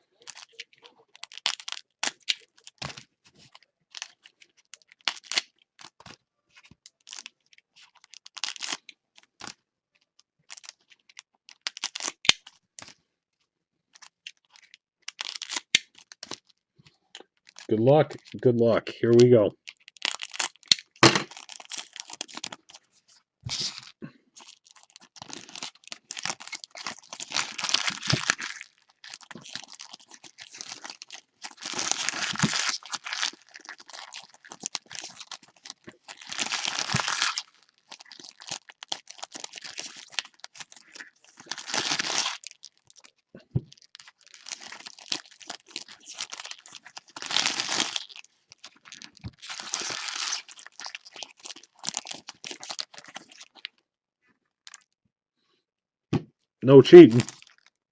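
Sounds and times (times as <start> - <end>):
foil wrappers tearing and crinkling: 0.2 - 9.6, 10.5 - 13.0, 14.0 - 16.5, 17.4 - 18.4, 19.6 - 22.9, 23.5 - 53.7, 57.2 - 57.8.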